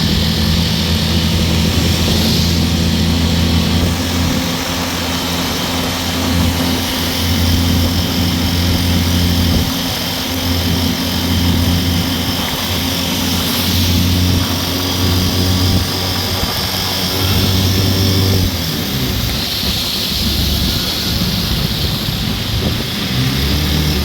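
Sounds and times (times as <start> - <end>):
steady low hum: 0.0 - 22.9
torrential rain hissing: 0.0 - 24.0.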